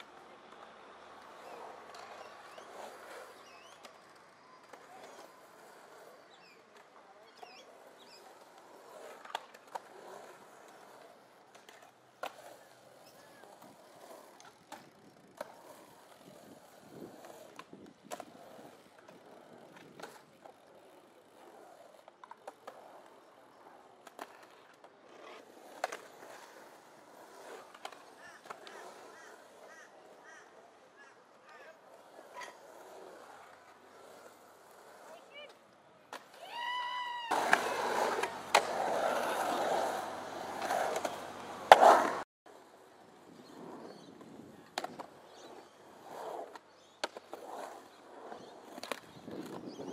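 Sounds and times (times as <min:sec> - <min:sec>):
skateboard clacking on concrete: 0:00.0 - 0:49.9
skateboard wheels rolling on concrete: 0:00.0 - 0:49.9.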